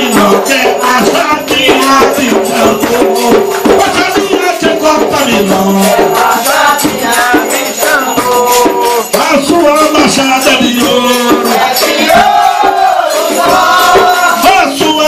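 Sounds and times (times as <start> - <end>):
group singing a chant: 0.0 - 9.3, 10.0 - 15.0
drums and shakers: 0.0 - 15.0.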